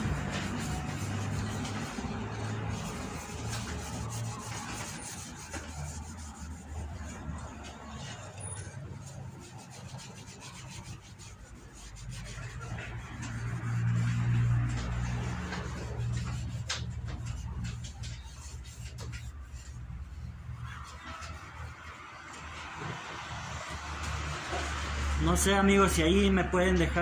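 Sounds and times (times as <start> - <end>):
hand rubbing wooden board: 0.0 - 22.0.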